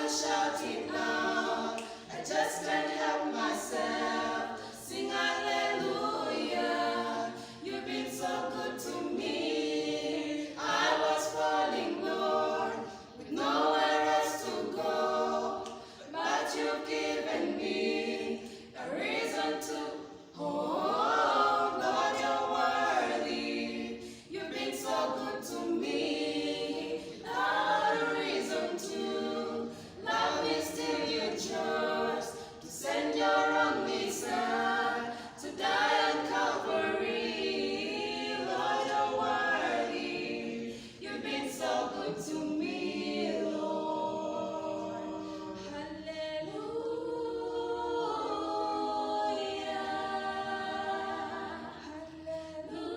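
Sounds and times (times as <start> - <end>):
choir singing a cappella: 0.0 - 52.9.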